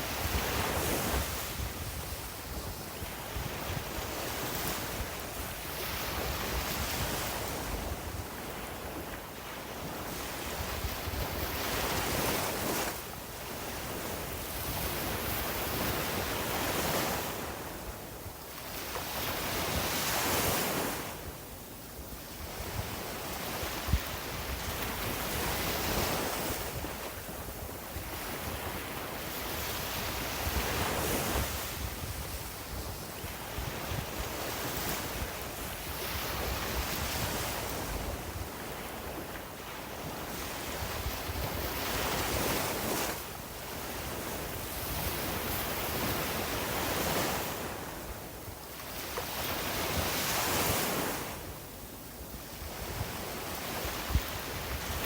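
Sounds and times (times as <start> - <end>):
wind rumbling on microphone: 0.0 - 18.1, 22.1 - 51.6, 52.4 - 55.0.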